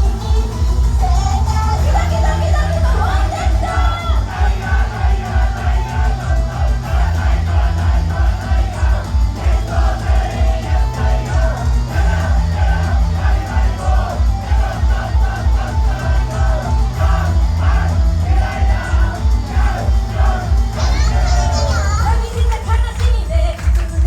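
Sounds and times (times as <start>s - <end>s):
heavy bass beat: 0.0s - 24.0s
person singing pop song: 0.0s - 24.0s.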